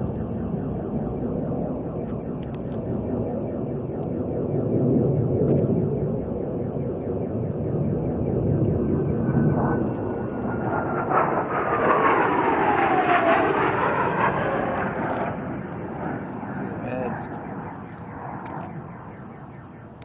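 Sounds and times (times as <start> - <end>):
jet engine roar: 0.0 - 20.0
jet engine whine: 0.0 - 20.0.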